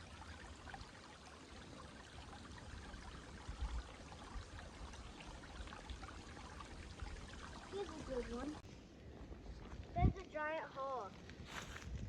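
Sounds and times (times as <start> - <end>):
creek trickling over rocks: 0.0 - 12.0.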